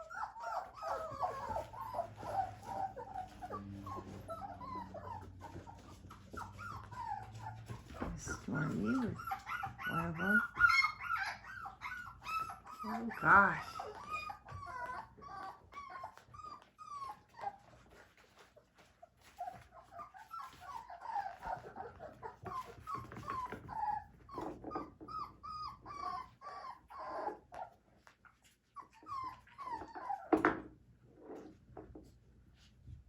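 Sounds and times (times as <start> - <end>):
puppies whining and whimpering: 0.0 - 30.8.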